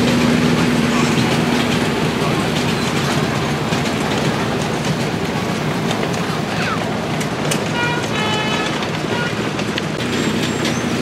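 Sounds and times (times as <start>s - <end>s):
miniature train running on track: 0.0s - 11.0s.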